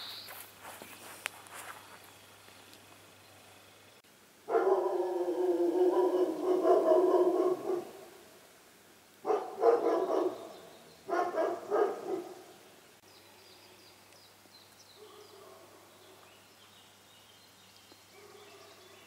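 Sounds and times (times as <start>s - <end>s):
high songbird song: 0.0s - 8.2s, 9.2s - 19.0s.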